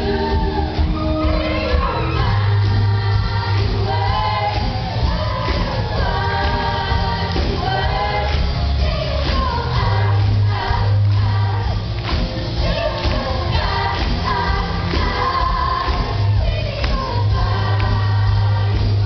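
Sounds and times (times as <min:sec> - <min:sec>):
backing track with heavy bass: 0:00.0 - 0:19.0
young voices singing together: 0:00.0 - 0:19.0.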